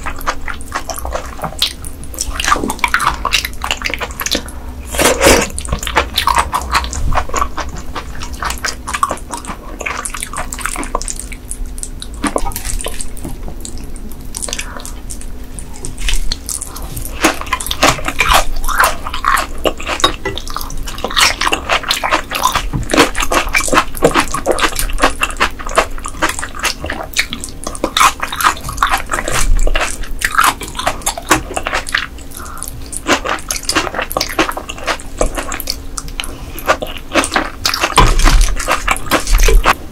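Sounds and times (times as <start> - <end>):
wet chewing and mouth sounds: 0.0 - 39.9.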